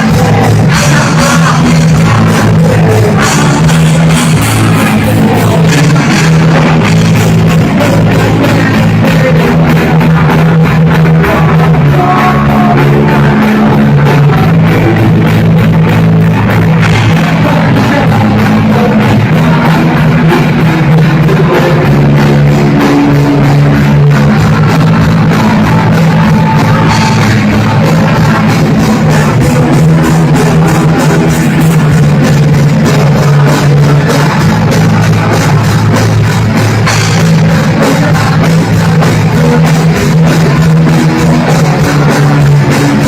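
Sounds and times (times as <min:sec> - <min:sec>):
bass guitar: 0:00.0 - 0:43.0
distorted electric guitars: 0:00.0 - 0:43.0
fast drum beat: 0:00.0 - 0:43.0
person singing: 0:00.0 - 0:43.0.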